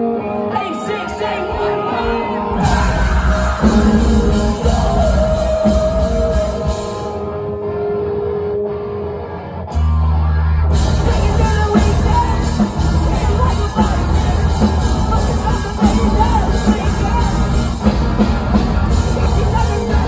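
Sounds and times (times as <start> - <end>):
live rock band playing loud: 0.0 - 20.0.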